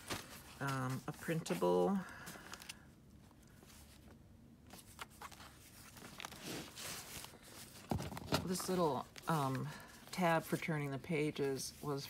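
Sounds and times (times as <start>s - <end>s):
paper rustling: 0.0s - 2.8s, 3.5s - 10.6s.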